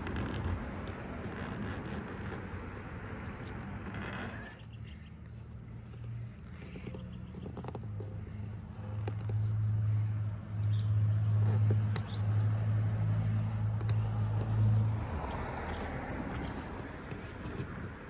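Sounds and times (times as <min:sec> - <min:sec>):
razor blade scraping resin: 0:00.0 - 0:18.0.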